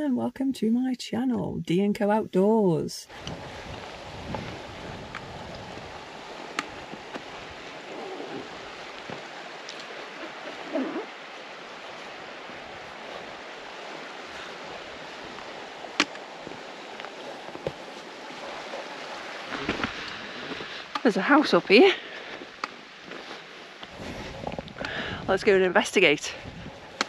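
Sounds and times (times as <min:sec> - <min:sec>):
brook water rushing: 0:03.1 - 0:27.0.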